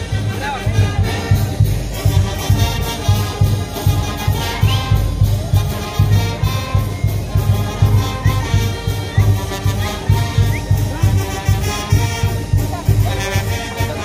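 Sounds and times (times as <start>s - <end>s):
brass band music: 0.0s - 14.0s
steady bass beat: 0.0s - 14.0s.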